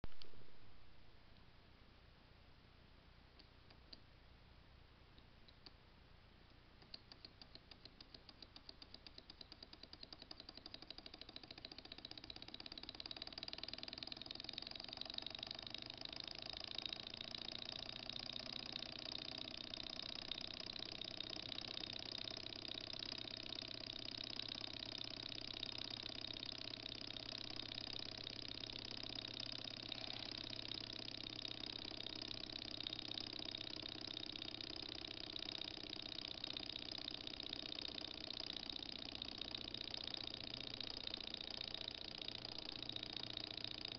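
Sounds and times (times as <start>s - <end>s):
model engine ticking and whirring: 6.8s - 43.9s.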